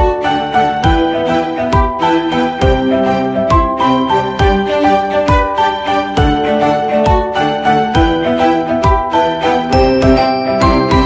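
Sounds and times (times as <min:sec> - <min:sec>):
melody of held notes: 0:00.0 - 0:11.0.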